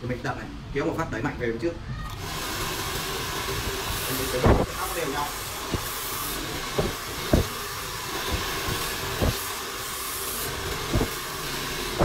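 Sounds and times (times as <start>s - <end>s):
hair dryer blowing: 2.2s - 12.0s.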